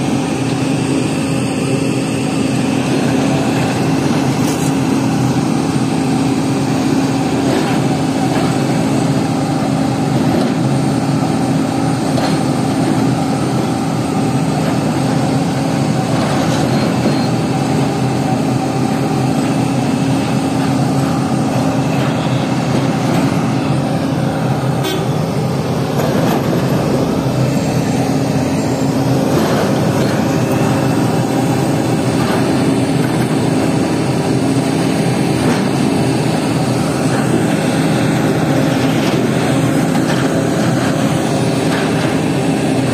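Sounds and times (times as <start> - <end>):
heavy machine engine droning: 0.0 - 42.9.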